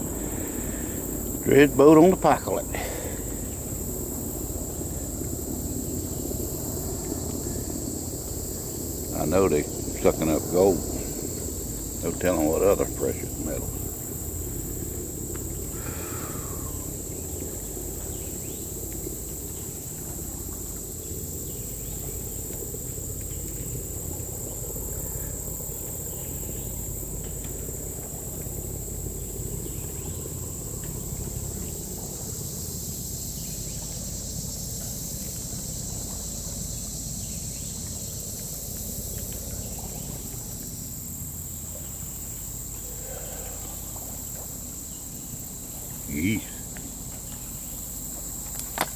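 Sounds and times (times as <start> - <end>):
high-pitched insect drone: 0.0 - 48.9.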